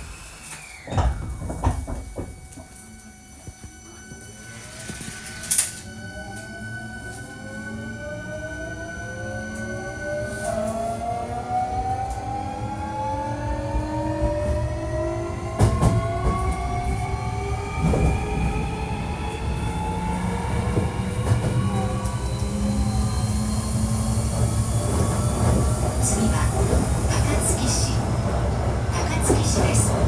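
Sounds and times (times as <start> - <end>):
electric train inverter whining: 0.0 - 30.0
train running rumble: 0.7 - 6.5, 10.4 - 30.0.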